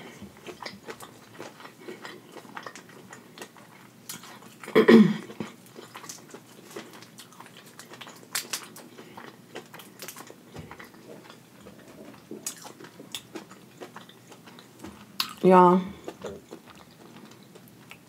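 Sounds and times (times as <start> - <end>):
chewing: 0.0 - 18.0.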